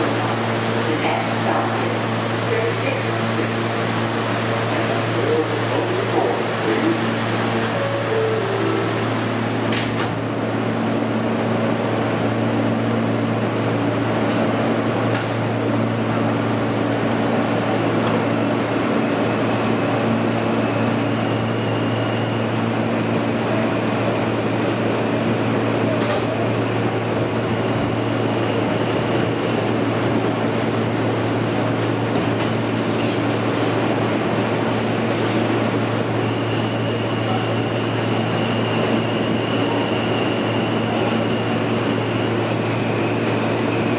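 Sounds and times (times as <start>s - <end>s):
subway car low hum: 0.0s - 43.9s.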